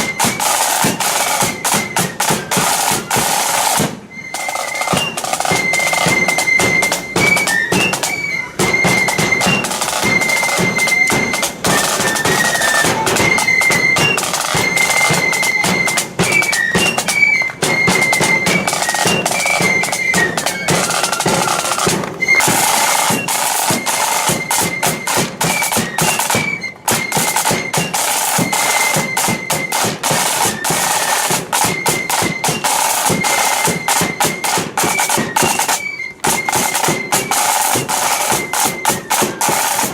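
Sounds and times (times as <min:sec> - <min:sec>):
rapid snare drumming: 0:00.0 - 0:39.9
shrill flutes playing melody: 0:00.0 - 0:39.9.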